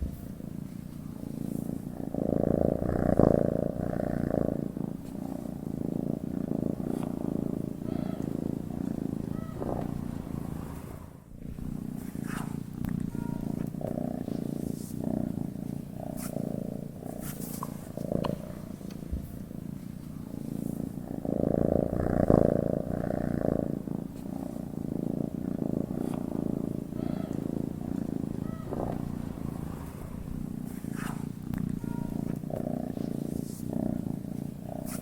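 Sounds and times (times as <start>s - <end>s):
cat purring: 0.0s - 35.0s.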